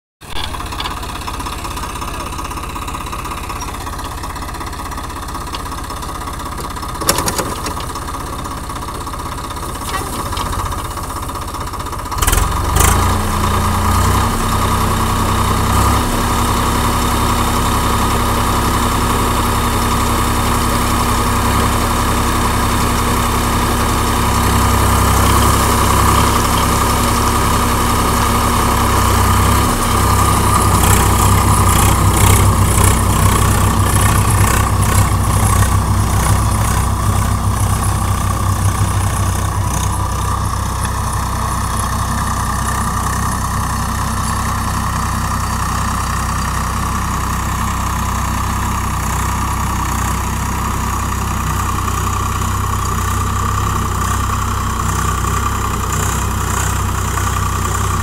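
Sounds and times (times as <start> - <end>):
tractor diesel engine running: 0.2 - 58.0.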